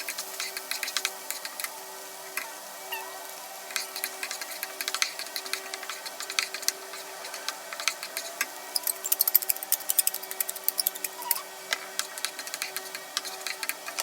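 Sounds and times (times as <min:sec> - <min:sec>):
meat frying with pops: 0:00.0 - 0:14.0.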